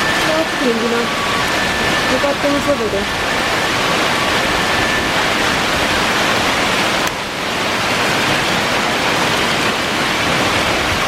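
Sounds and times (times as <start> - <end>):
heavy rain and hail: 0.0 - 11.0.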